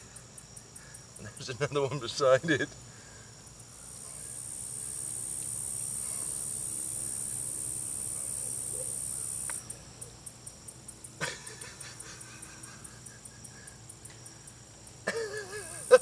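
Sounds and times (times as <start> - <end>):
insects buzzing high-pitched: 0.0 - 16.0
insects chirping rhythmically: 0.0 - 16.0.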